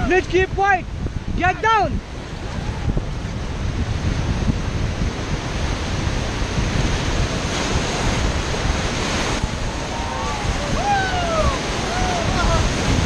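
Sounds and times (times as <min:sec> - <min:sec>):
whitewater rushing and splashing: 0:00.0 - 0:13.0
wind buffeting microphone: 0:00.0 - 0:13.0.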